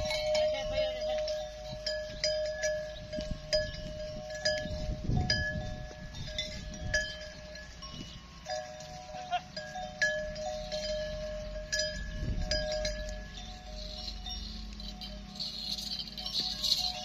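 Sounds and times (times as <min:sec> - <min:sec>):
metal livestock bells clinking: 0:00.0 - 0:17.0.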